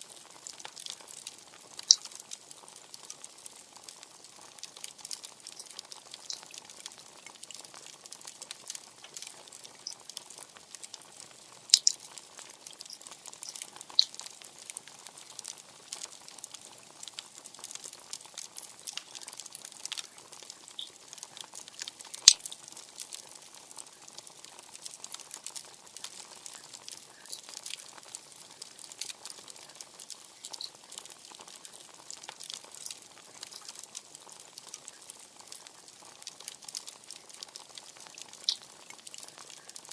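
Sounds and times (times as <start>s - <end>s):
bonfire crackling: 0.0s - 39.9s
sharp fire pops: 0.2s - 39.8s.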